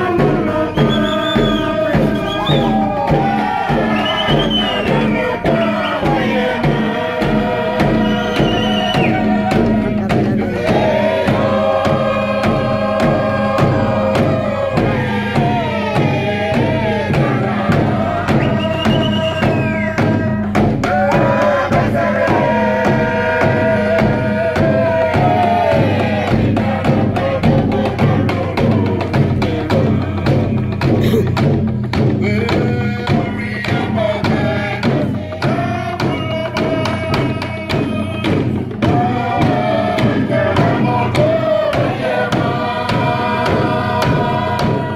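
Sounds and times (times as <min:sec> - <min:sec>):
group singing in unison: 0:00.0 - 0:44.9
hand drums beating: 0:00.0 - 0:44.9.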